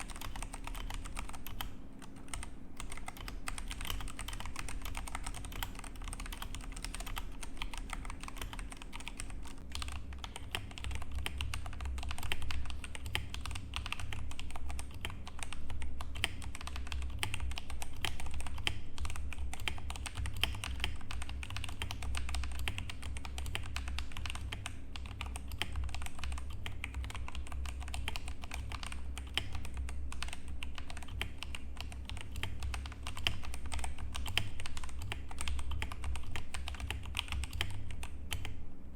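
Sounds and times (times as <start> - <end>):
mechanical keyboard typing: 0.0 - 38.6.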